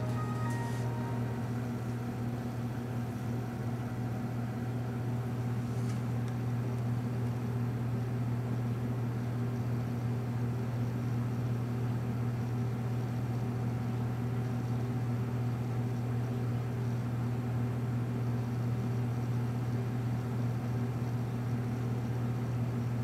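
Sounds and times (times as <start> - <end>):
laptop cooling fan humming: 0.0 - 23.0.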